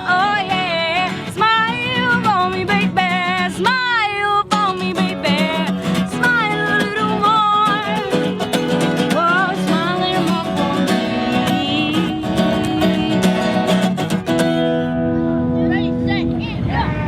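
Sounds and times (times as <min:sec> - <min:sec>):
person singing with vibrato: 0:00.0 - 0:14.0
strummed guitar: 0:00.0 - 0:16.7.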